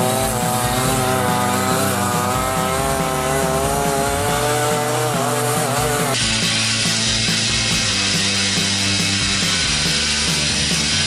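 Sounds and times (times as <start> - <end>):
snow vehicle engine buzzing whine: 0.0 - 11.0.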